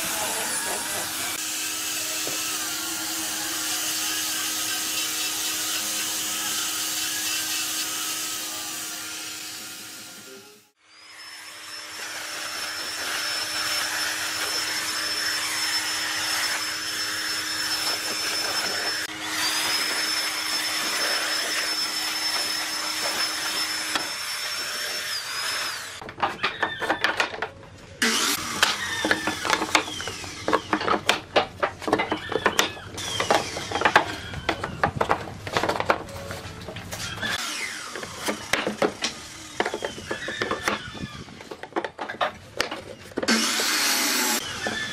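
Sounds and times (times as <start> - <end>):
electric blower whining: 0.0 - 26.0, 28.0 - 41.7, 43.2 - 44.9.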